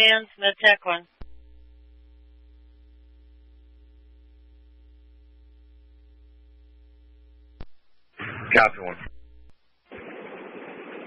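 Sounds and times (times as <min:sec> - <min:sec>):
faint electrical hum: 0:00.0 - 0:10.9
steady radio tones: 0:00.0 - 0:11.0.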